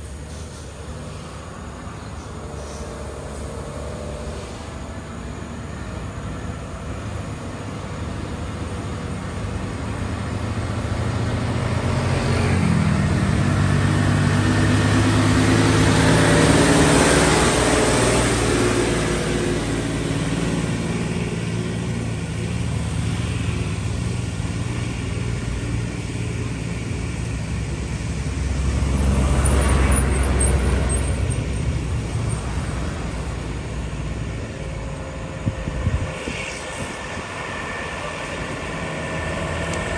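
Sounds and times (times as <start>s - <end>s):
diesel truck engine passing: 0.0s - 39.9s
heavy vehicle rumbling past: 0.0s - 39.9s.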